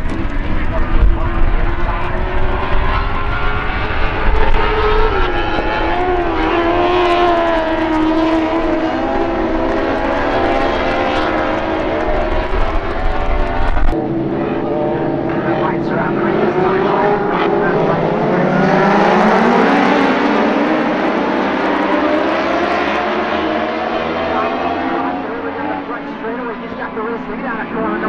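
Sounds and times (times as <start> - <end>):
race car engines wailing: 0.0 - 28.0.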